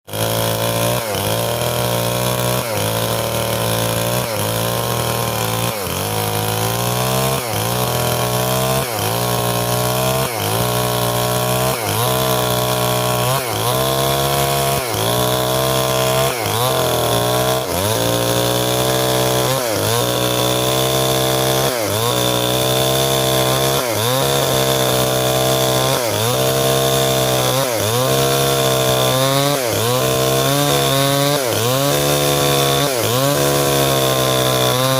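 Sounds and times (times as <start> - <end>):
chainsaw cutting timber: 0.0 - 34.9.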